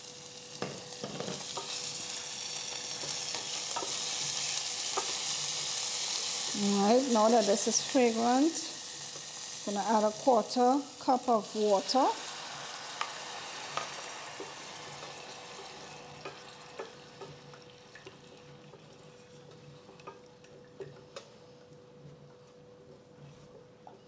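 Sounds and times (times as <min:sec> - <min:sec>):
oil sizzling in saucepan: 0:00.0 - 0:21.6.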